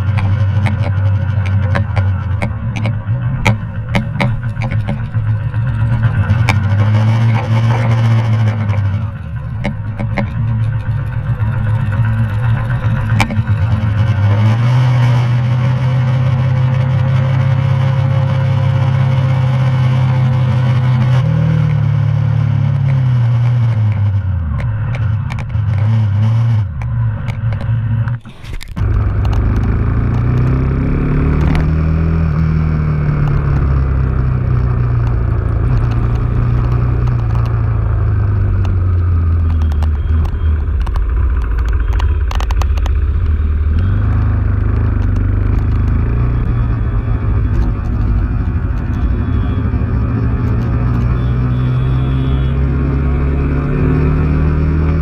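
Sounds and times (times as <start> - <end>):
motorcycle engine revving: 0.0 - 55.0
road and wind noise: 0.0 - 55.0.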